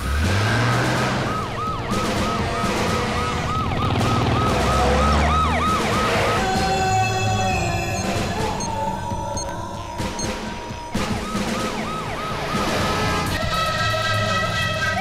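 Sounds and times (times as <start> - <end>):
car engines humming: 0.0 - 15.0
police siren yelping: 0.3 - 13.5.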